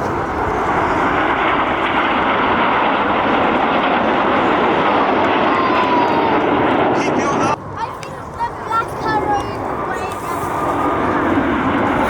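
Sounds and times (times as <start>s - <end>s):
jet roar: 0.0s - 12.0s.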